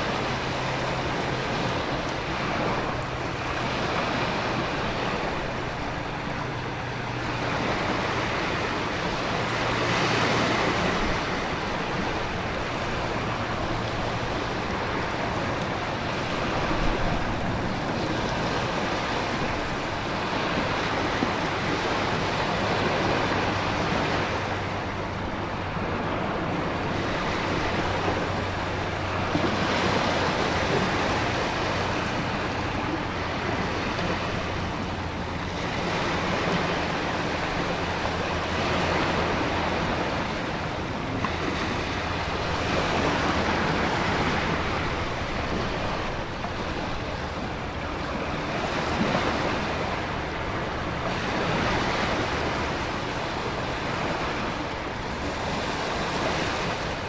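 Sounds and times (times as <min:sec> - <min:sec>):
heavy ocean surf: 0:00.0 - 0:57.0
wind: 0:00.0 - 0:57.0.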